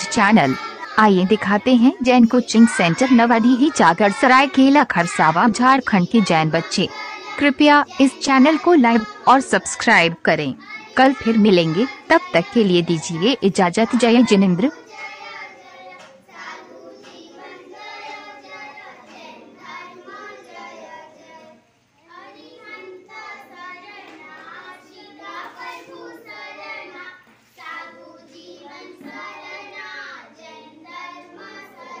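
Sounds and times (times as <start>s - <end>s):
children singing a prayer: 0.0s - 32.0s.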